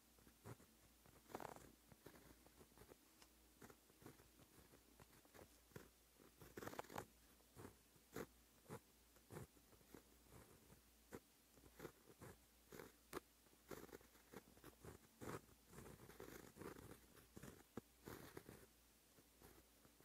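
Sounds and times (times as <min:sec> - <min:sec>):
pen nib scratching paper: 0:00.2 - 0:03.0, 0:03.6 - 0:20.0.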